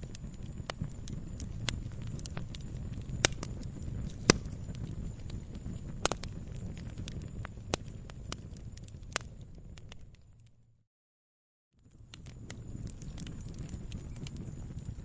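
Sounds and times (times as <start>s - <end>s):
wood fire crackling: 0.0s - 10.6s, 11.8s - 15.0s
low rumble of flames: 0.0s - 10.8s, 11.8s - 15.0s.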